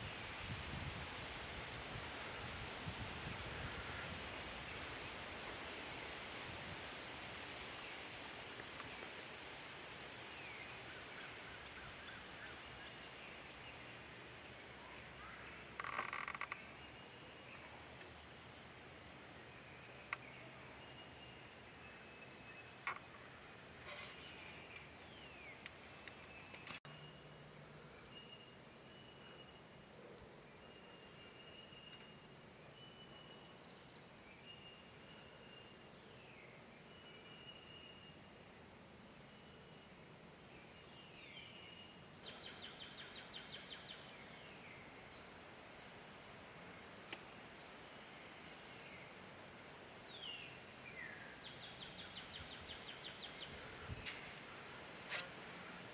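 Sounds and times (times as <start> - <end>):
faint birdsong: 0.0 - 55.9
steady hiss: 0.0 - 55.9.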